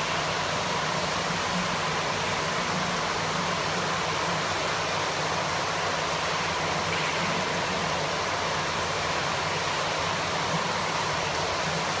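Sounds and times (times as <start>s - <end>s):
pool water circulation rushing: 0.0s - 12.0s.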